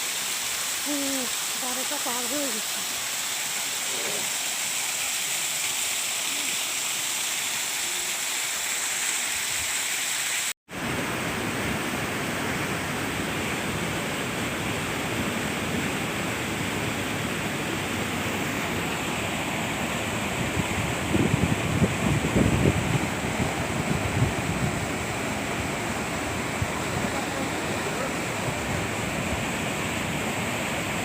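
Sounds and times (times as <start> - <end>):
flowing water rushing: 0.0 - 31.0.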